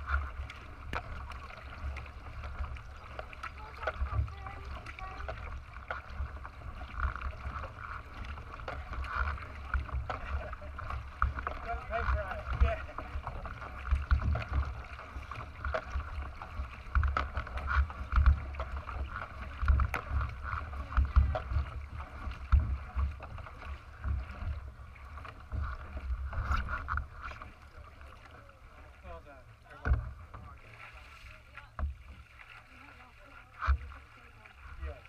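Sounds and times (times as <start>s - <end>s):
paddle stroke thumps: 0.0s - 35.0s
water rushing along kayak hull: 0.0s - 35.0s.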